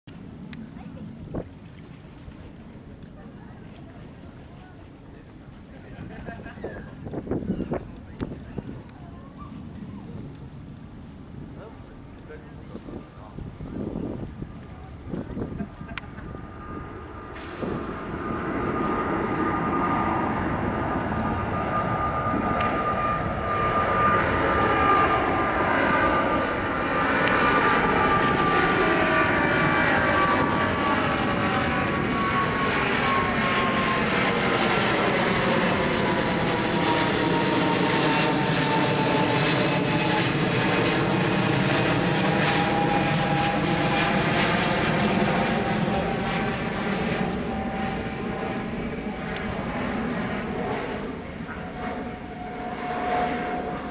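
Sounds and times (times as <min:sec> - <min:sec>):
jet airliner roar with high whine: 0:00.1 - 0:53.9.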